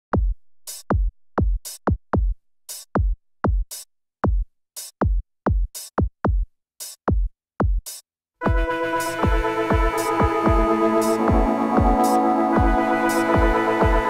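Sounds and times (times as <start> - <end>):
electronic drum beat: 0.1 - 14.0.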